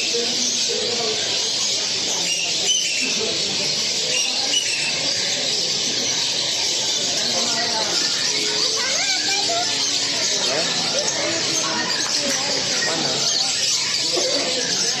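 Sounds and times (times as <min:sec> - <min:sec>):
caged songbirds chirping: 0:00.0 - 0:15.0
people chattering: 0:00.0 - 0:15.0.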